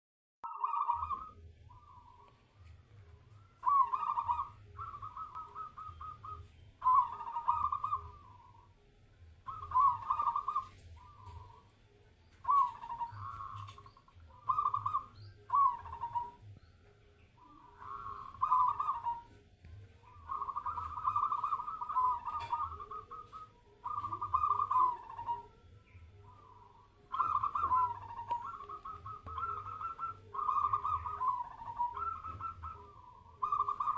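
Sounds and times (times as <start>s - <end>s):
dove cooing: 0.4s - 8.8s, 9.4s - 16.8s, 17.4s - 33.9s.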